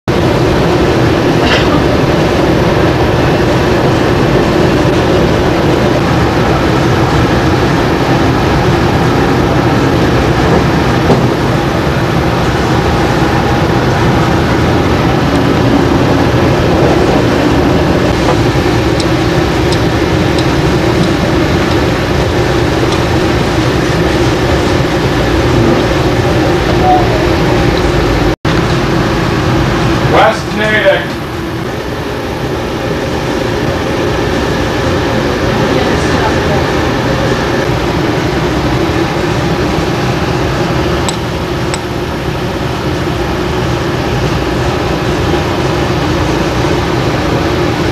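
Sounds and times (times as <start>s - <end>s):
train rumbling inside carriage: 0.1s - 47.9s.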